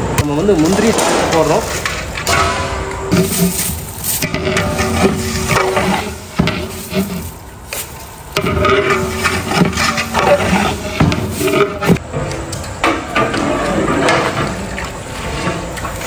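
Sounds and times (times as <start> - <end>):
ladle scraping metal pot: 0.5 - 16.0
sloshing liquid: 0.6 - 16.0.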